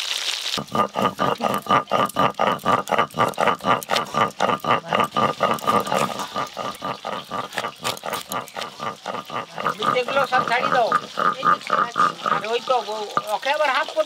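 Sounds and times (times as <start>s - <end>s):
animal pulsed calls: 0.6s - 13.4s.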